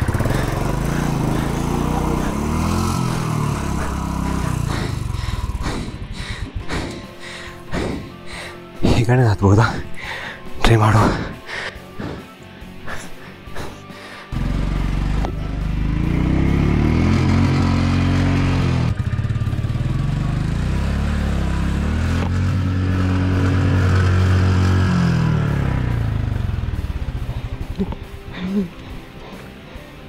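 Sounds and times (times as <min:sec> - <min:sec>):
motorcycle engine revving: 0:00.0 - 0:08.7, 0:11.2 - 0:30.0.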